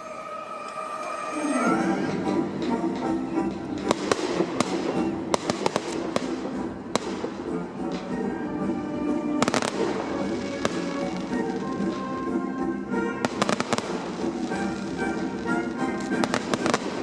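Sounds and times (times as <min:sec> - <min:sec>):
show music: 0:00.0 - 0:17.0
fireworks bangs and cracks: 0:02.1 - 0:17.0.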